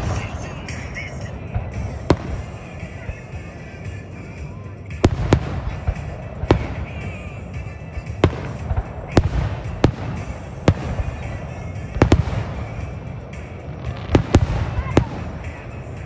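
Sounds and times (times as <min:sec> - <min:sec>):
fireworks launching and bursting: 0:00.0 - 0:16.0
steady low rumble: 0:00.0 - 0:16.0.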